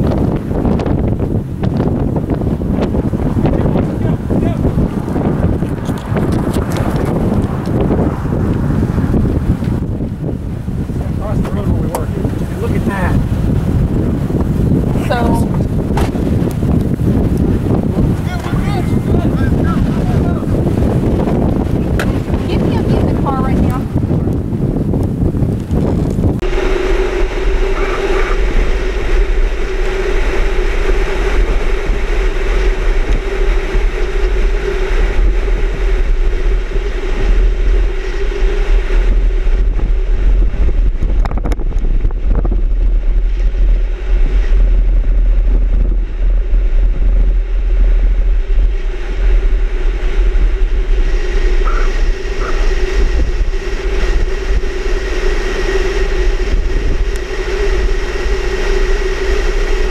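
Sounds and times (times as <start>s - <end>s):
constant drone: 0.0s - 59.9s
wind buffeting microphone: 0.0s - 59.9s.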